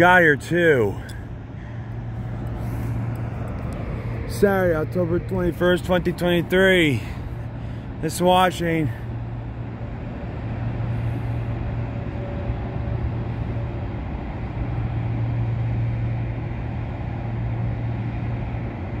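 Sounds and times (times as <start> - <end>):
constant rumble: 0.0 - 19.0
low mechanical hum: 0.0 - 19.0.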